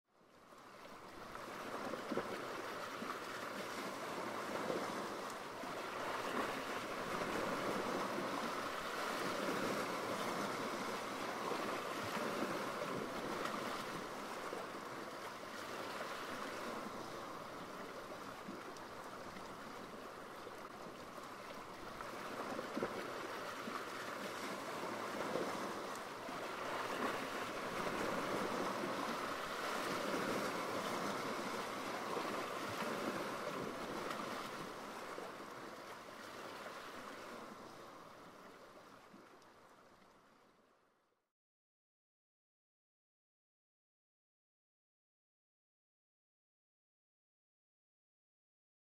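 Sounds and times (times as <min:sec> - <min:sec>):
waves breaking: 0:00.4 - 0:40.5.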